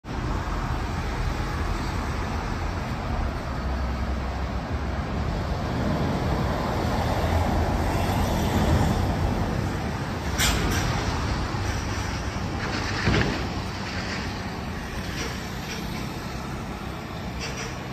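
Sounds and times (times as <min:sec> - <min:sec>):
passing cars: 0:00.0 - 0:17.9.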